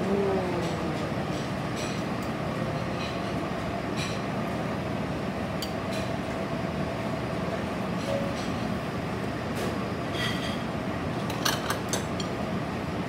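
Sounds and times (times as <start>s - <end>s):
ventilation rumble with whine: 0.0s - 13.0s.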